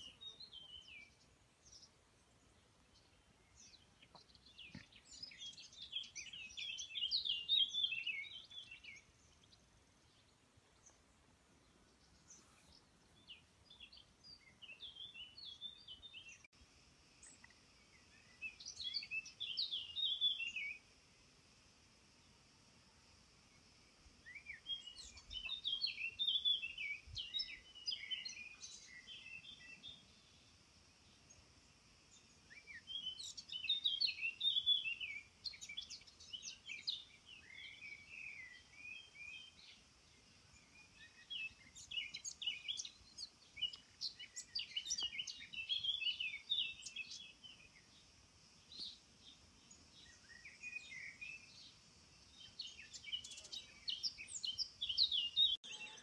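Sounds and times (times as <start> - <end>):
faint high hiss: 0.0 - 56.0
songbirds twittering: 0.0 - 56.0.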